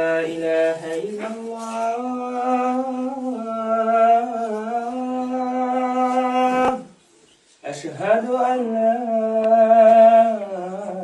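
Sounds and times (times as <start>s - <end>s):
man chanting: 0.0s - 7.0s, 7.6s - 11.0s.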